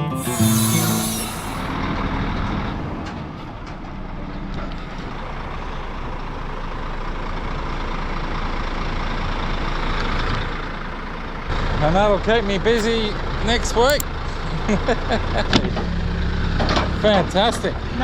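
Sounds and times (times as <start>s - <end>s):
truck engine running: 2.1s - 17.8s.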